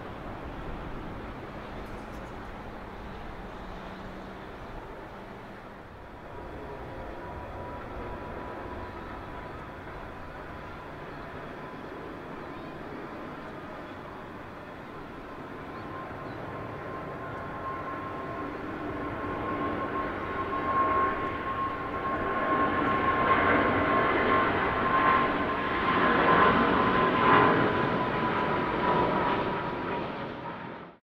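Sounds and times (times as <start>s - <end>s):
jet engines at take-off thrust: 0.0s - 31.0s
steady engine whine: 0.0s - 31.0s.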